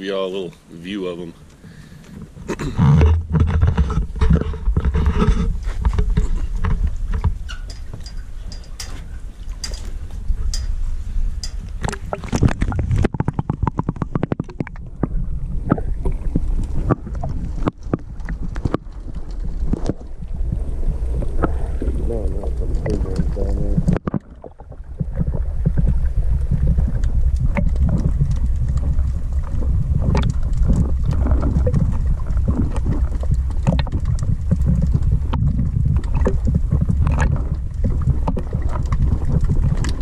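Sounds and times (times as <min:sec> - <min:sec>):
muffled underwater rumble: 0:00.6 - 0:40.0
sharp underwater clicks and crackles: 0:01.3 - 0:40.0.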